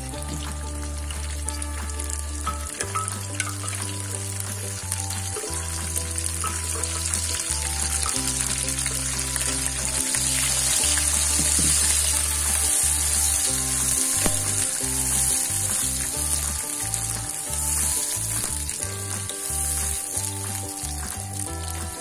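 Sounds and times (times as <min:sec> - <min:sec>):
chilli paste sizzling in oil: 0:00.0 - 0:22.0.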